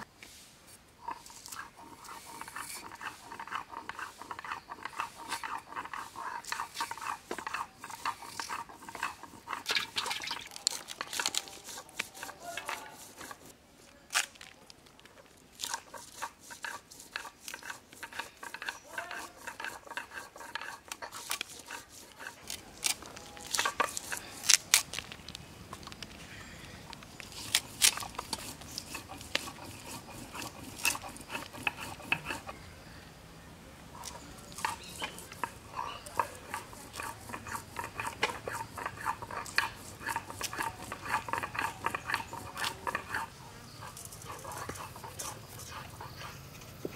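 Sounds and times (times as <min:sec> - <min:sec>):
blade scraping vegetables: 0:01.0 - 0:14.5, 0:15.5 - 0:25.1, 0:27.2 - 0:32.6, 0:34.0 - 0:46.9.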